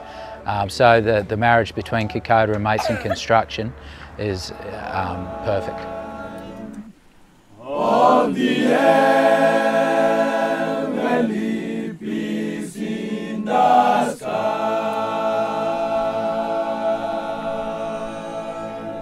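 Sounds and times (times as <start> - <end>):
choir singing held chords: 0.0 - 1.6, 2.7 - 19.0.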